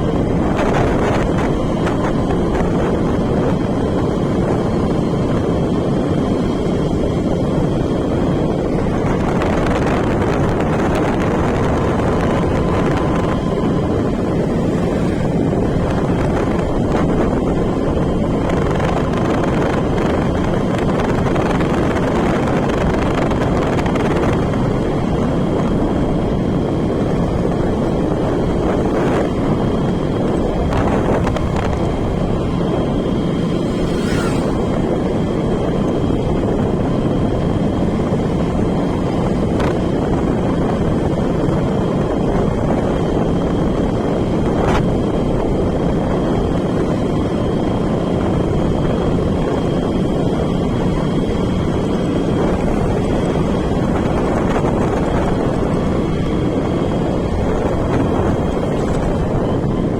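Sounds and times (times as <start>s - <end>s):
moving road vehicle: 0.0s - 59.9s
wind buffeting microphone: 0.0s - 59.9s.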